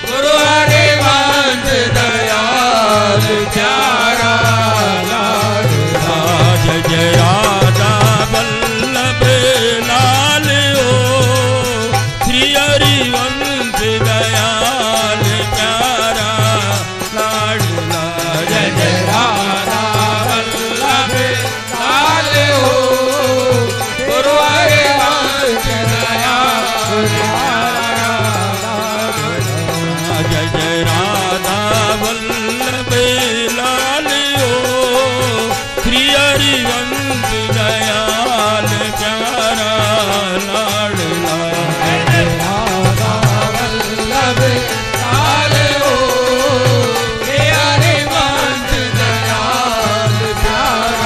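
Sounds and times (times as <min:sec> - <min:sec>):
devotional chant singing: 0:00.0 - 0:51.0
steady pulsing drum beat: 0:00.1 - 0:51.0.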